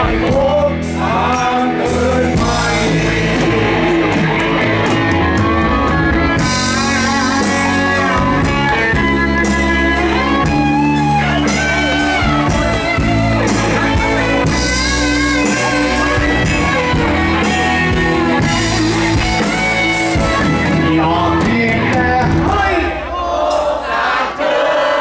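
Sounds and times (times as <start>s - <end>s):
electric guitar lead: 0.0s - 22.6s
bass guitar: 0.0s - 23.0s
drum kit: 0.0s - 24.2s.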